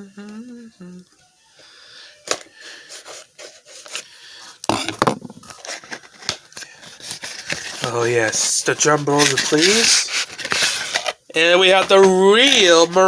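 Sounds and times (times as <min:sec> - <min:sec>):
toy packaging clicks and scrapes: 0:02.2 - 0:13.0
packaging rustling: 0:02.3 - 0:12.8.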